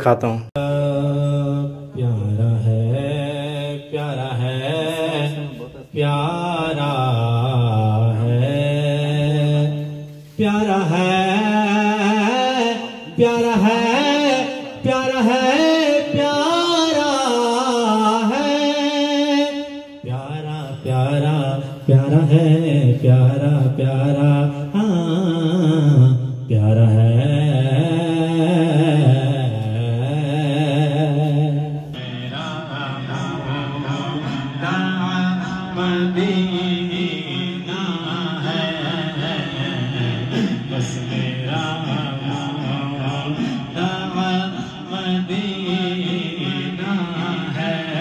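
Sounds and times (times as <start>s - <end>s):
man singing into microphone: 0.0s - 48.0s.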